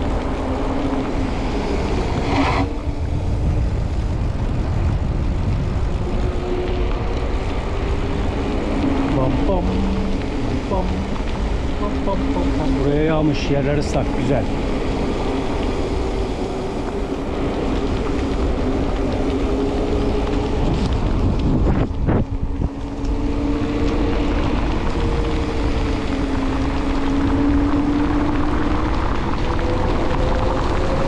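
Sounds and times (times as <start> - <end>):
bike tyres hissing on wet asphalt: 0.0 - 31.0
wind rushing over microphone: 0.0 - 31.0.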